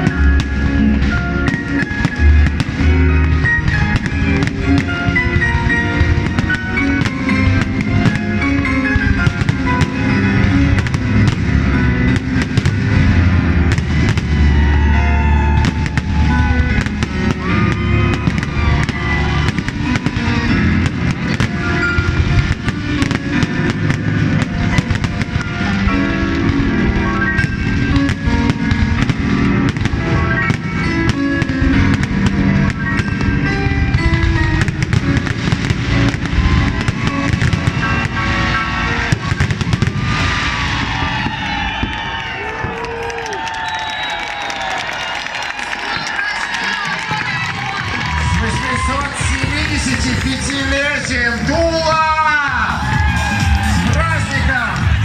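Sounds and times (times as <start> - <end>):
loud music: 0.0 - 42.8, 45.6 - 55.0
fireworks bangs and crackles: 0.0 - 55.0.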